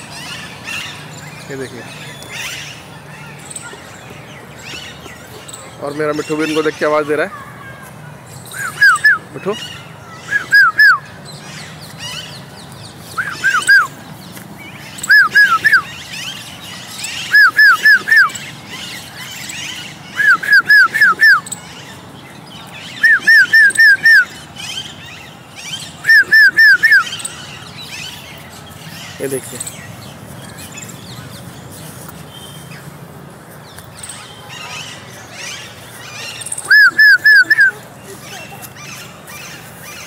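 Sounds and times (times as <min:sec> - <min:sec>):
distant flock of parakeets calling: 0:00.0 - 0:07.6, 0:08.4 - 0:40.0.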